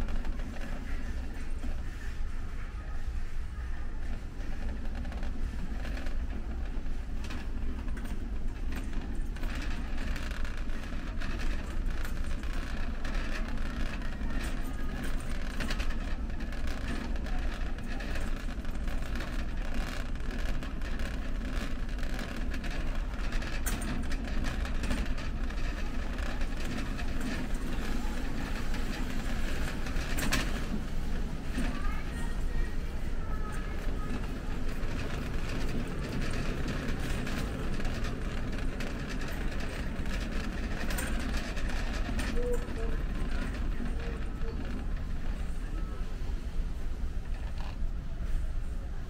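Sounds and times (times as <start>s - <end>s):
light clicks and rattles: 0.0s - 48.8s
faint voices: 0.0s - 49.0s
steady low rumble: 0.0s - 49.0s.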